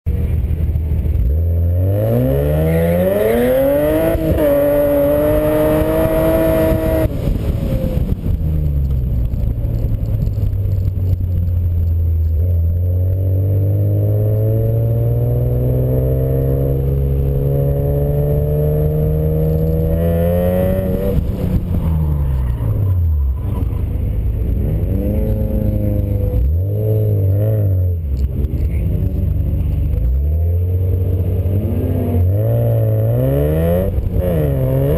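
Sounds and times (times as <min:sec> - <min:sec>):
misfiring car engine revving: 0:00.1 - 0:34.9.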